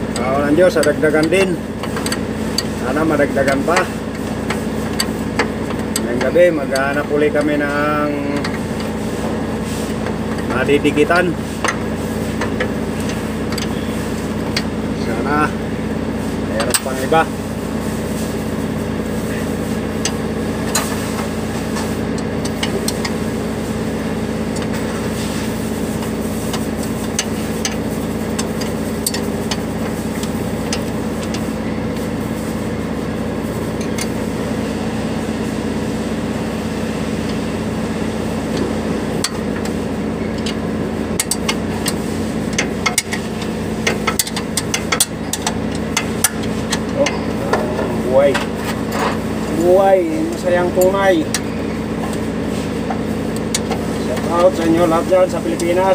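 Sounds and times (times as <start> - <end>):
steady mechanical hum: 0.0 - 55.9.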